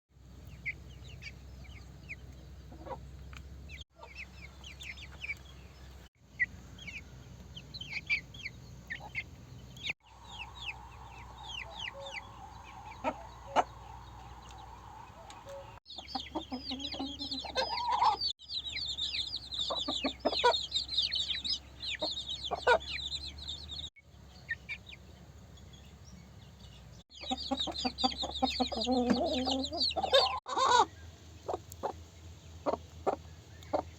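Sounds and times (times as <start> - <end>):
chickens clucking: 0.4 - 25.1, 27.1 - 33.9.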